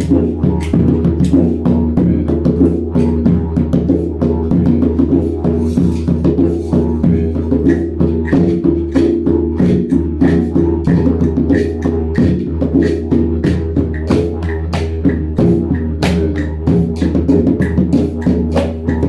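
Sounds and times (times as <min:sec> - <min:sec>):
didgeridoo drone: 0:00.0 - 0:19.0
drum and percussion beat: 0:00.0 - 0:19.0.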